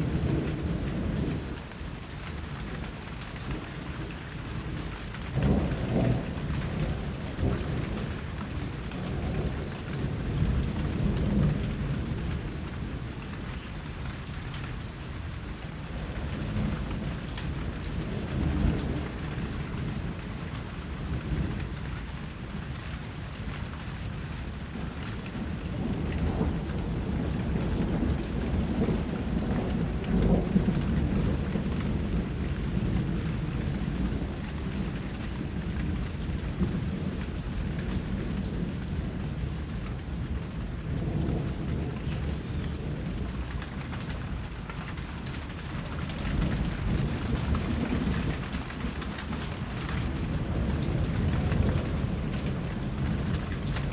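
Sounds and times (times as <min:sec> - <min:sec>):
rolling thunder rumbles: 0:00.0 - 0:53.9
steady rain: 0:00.0 - 0:53.9.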